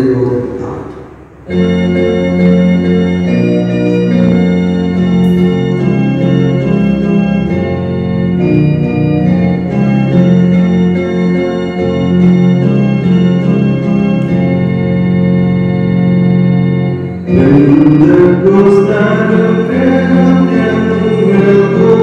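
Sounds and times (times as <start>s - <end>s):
organ playing slow chords: 0.0s - 22.0s.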